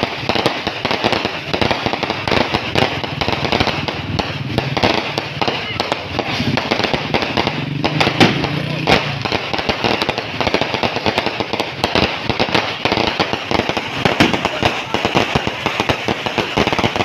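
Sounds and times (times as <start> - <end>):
firecrackers crackling and popping: 0.0 - 17.0.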